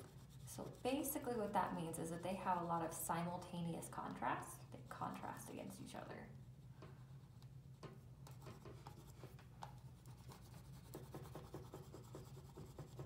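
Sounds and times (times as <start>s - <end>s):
oil pastel scratching on paper: 0.0s - 4.1s, 6.4s - 13.0s.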